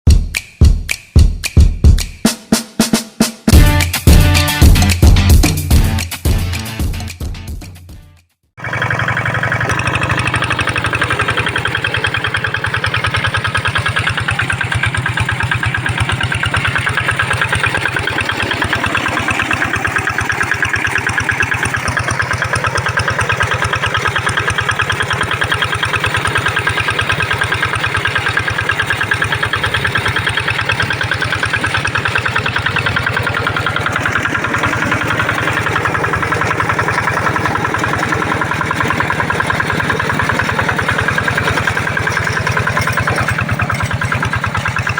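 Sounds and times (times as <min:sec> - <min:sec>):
hand tractor engine chugging: 0:08.6 - 0:44.9.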